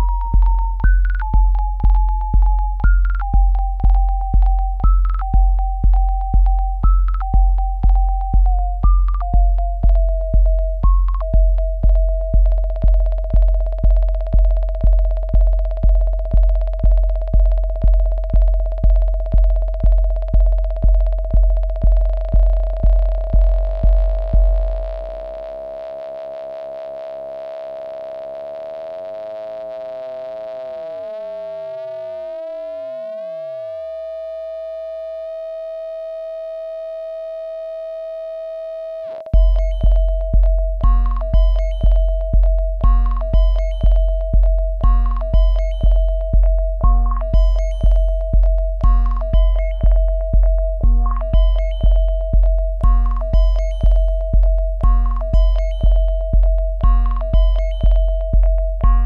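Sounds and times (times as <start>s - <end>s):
low thumping synthesizer pulse: 0.0s - 29.2s, 32.4s - 59.0s.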